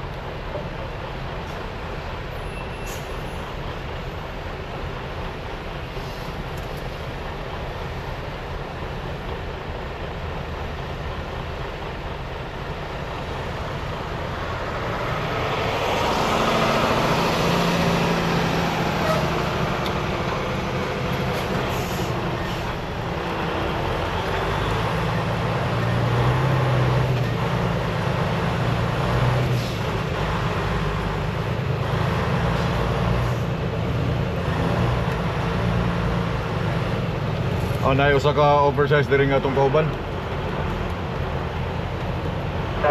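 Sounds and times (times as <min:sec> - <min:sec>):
road and cab noise: 0:00.0 - 0:42.9
diesel truck engine running: 0:03.2 - 0:42.9.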